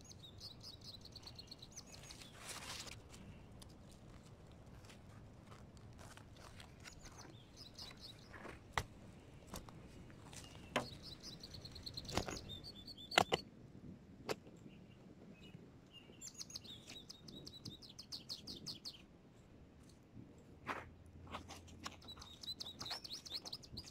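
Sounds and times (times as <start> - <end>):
songbirds chirping and trilling: 0.0 - 3.7, 6.4 - 13.5, 14.4 - 19.8, 20.4 - 23.9.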